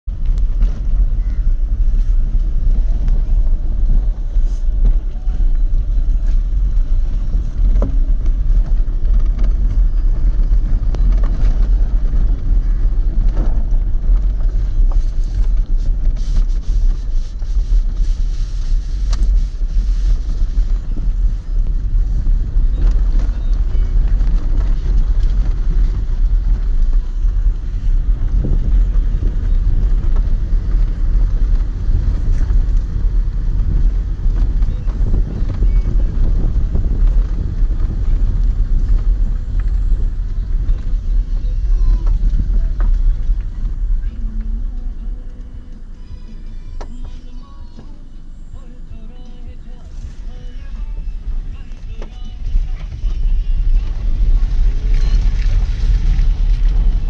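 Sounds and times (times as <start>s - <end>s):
wind buffeting microphone: 0.1s - 46.3s, 49.8s - 57.0s.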